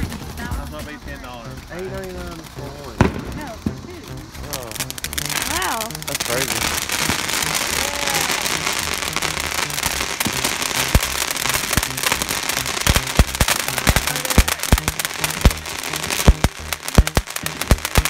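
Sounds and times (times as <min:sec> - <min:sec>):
firework crackling pops: 0:00.0 - 0:18.0
firework spraying sparks hissing: 0:00.0 - 0:18.0.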